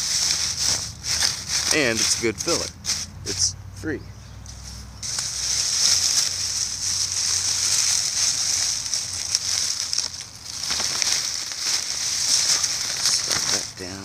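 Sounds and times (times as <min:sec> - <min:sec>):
dry leaves crackling and rustling: 0:00.0 - 0:03.5, 0:04.5 - 0:14.0.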